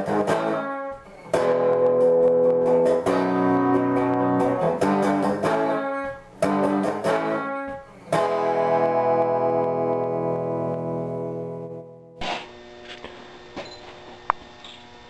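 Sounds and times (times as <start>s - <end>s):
guitar chords ringing: 0.0s - 12.3s.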